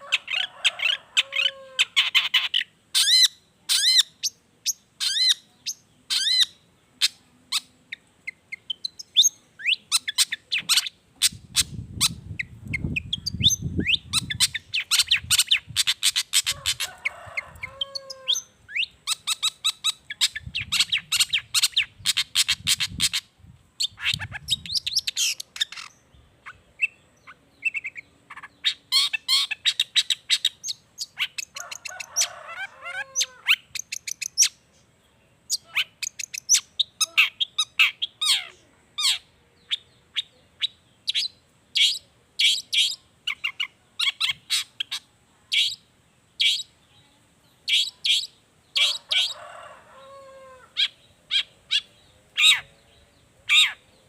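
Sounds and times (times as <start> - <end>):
bird chirping song: 0.0 - 54.0.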